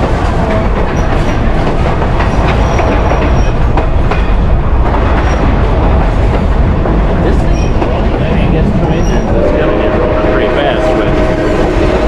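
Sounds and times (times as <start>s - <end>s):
railroad car rumbling on track: 0.0s - 12.0s
wheels clicking on rails: 0.0s - 12.0s.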